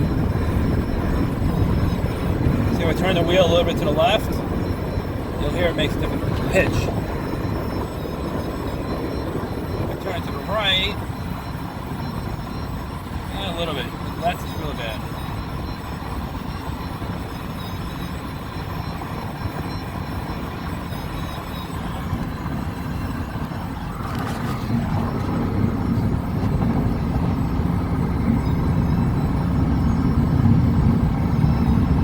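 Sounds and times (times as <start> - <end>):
car road and engine drone: 0.0 - 32.0.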